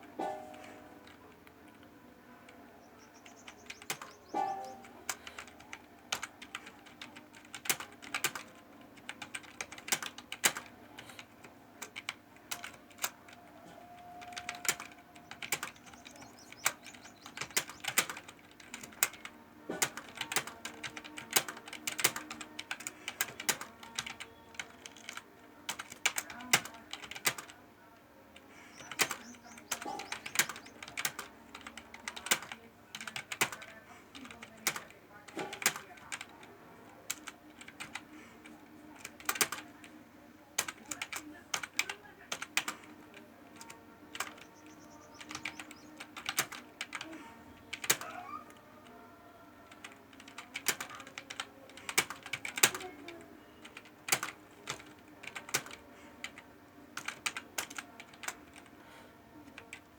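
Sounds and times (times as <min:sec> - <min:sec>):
typing on laptop keyboard: 0:00.0 - 0:59.9.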